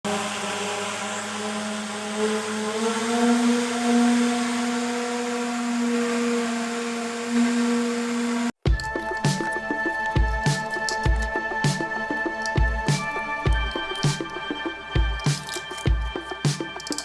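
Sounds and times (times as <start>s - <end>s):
small electric motor whine: 0.1s - 17.0s.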